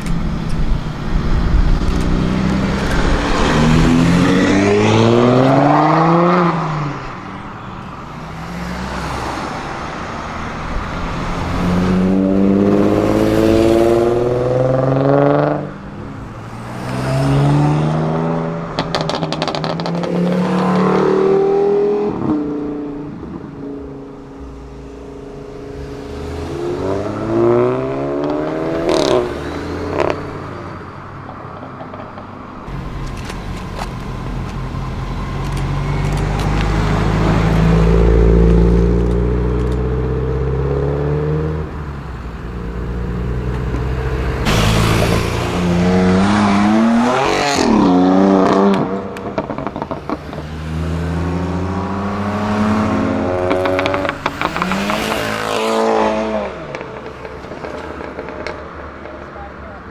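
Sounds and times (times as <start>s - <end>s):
cars accelerating hard: 0.4s - 7.4s, 8.1s - 59.9s.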